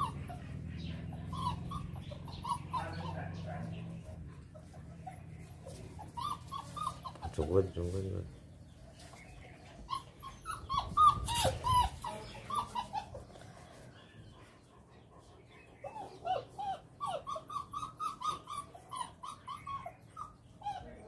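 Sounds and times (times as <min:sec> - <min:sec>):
puppies whimpering: 0:00.0 - 0:21.0.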